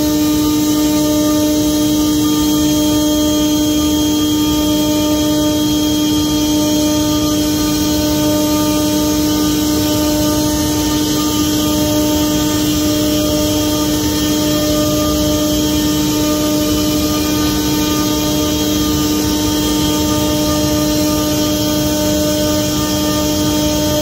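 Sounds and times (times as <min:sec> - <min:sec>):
router spindle cutting wood: 0:00.0 - 0:24.0.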